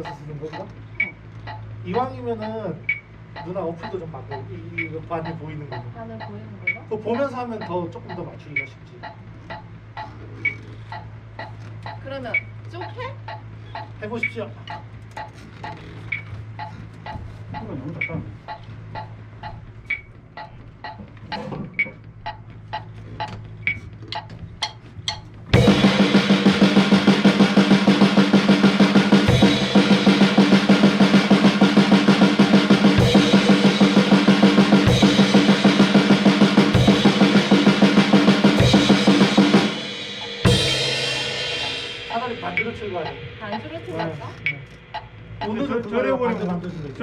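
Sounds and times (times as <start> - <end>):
drum kit playing a beat: 0.0 - 14.0, 16.6 - 45.9
metronome clicks: 0.0 - 46.0.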